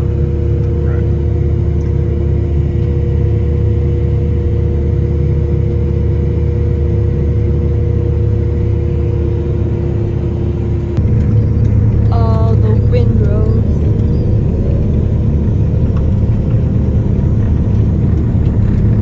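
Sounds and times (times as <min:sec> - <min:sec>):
engine and drivetrain rumble: 0:00.0 - 0:19.0
steady whining tones: 0:00.0 - 0:19.0.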